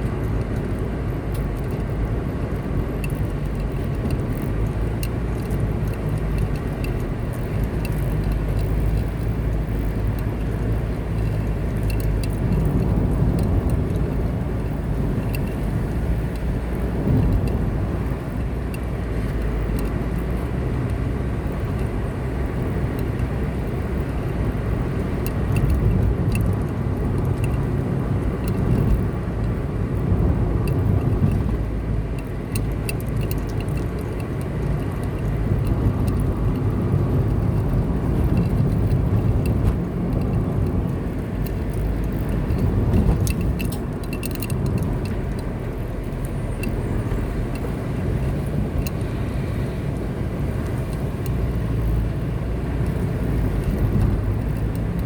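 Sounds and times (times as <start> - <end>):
car engine and tyre rumble: 0.0 - 55.0
faint light clicks and taps: 2.7 - 14.3, 15.1 - 21.9, 22.6 - 49.8.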